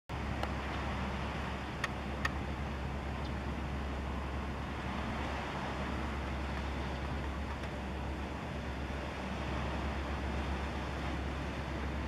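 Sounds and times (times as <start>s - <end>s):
distant engine noise: 0.1s - 12.0s
wind: 0.1s - 12.0s.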